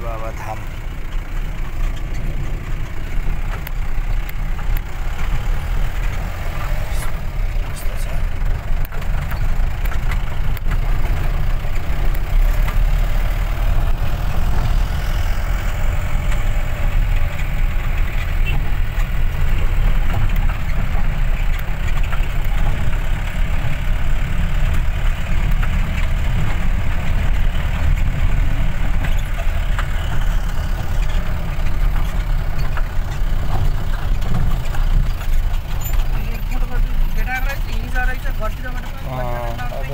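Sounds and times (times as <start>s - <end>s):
car engine running: 0.0s - 39.9s
tyres rumbling over gravel: 0.0s - 39.9s
clicks and rattles: 0.4s - 14.8s, 16.0s - 23.8s, 24.6s - 39.9s.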